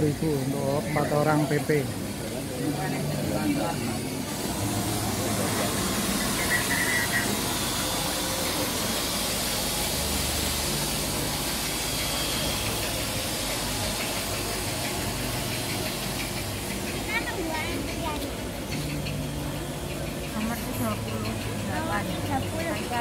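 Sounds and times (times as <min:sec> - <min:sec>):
cable winch engine running: 0:00.0 - 0:23.0
constant hiss: 0:00.0 - 0:23.0.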